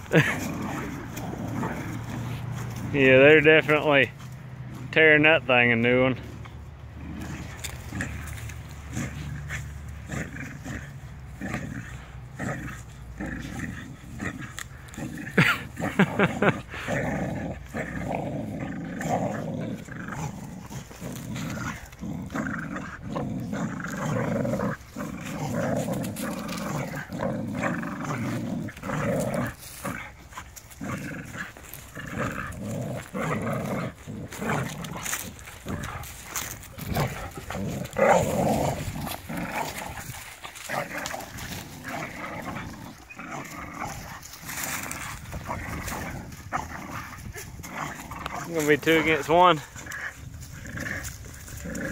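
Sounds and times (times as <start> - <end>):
dogs growling: 0.0 - 51.9.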